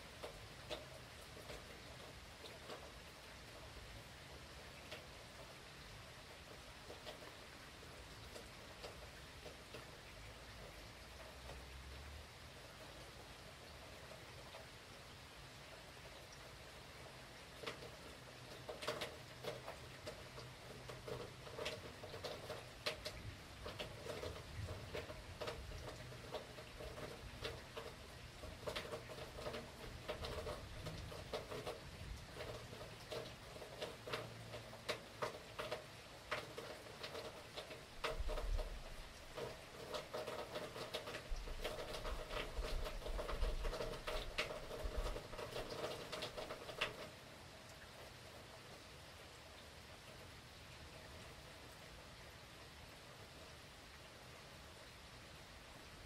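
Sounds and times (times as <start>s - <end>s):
heavy rain pattering on a surface: 0.0s - 56.0s.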